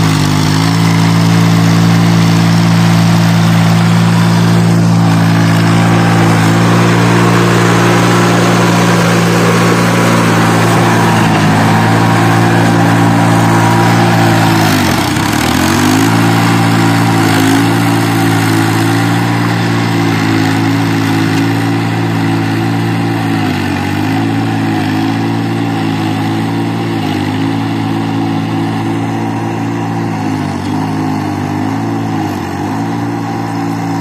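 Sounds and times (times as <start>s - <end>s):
tractor diesel engine labouring: 0.0s - 34.0s.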